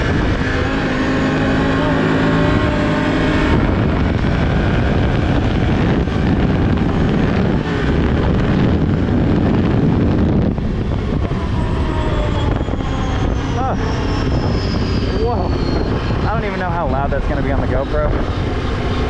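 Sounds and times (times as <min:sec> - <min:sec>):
atv engine at full throttle: 0:00.0 - 0:19.0
wind rushing over microphone: 0:00.0 - 0:19.0.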